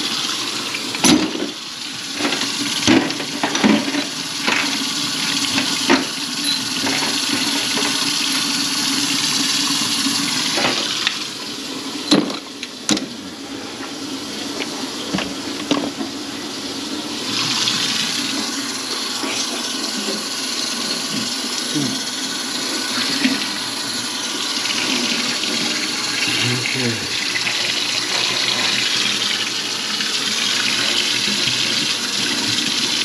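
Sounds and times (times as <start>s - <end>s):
water running into sink: 0.0s - 33.0s.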